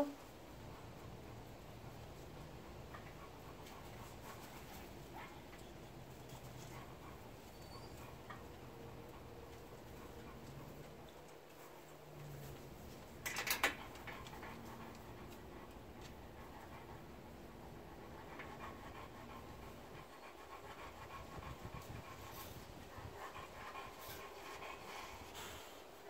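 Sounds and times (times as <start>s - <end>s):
dog panting: 0.1s - 26.0s.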